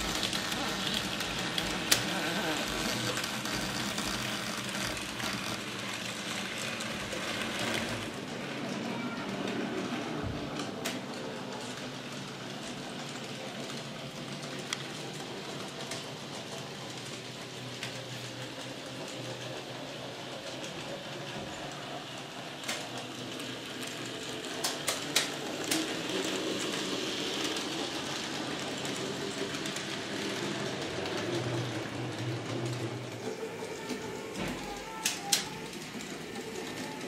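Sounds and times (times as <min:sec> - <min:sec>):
model train motors humming: 0:00.0 - 0:37.0.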